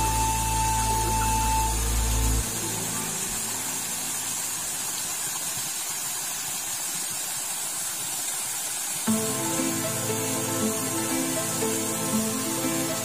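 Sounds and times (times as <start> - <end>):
waterfall splashing over rock: 0.0 - 13.0.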